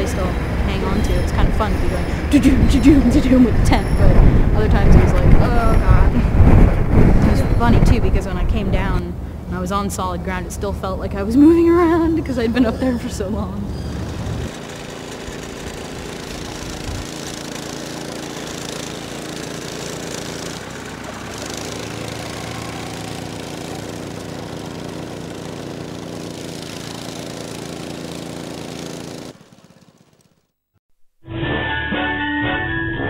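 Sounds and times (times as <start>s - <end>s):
engine running steadily: 0.0s - 30.4s.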